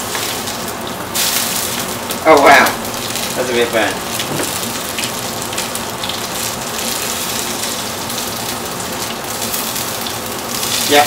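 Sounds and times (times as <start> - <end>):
fishcakes sizzling in oil: 0.0 - 11.0.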